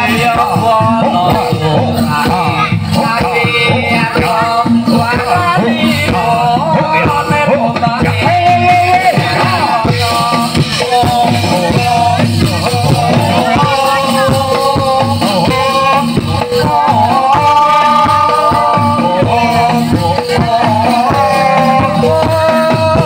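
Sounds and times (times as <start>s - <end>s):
busy drumming: 0.0s - 23.0s
live ensemble music: 0.0s - 23.0s.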